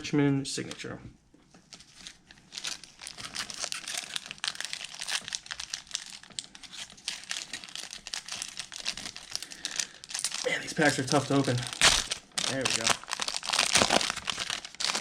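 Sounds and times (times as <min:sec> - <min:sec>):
foil wrapper crinkling: 0:01.7 - 0:15.0
wrapper tearing: 0:01.7 - 0:15.0.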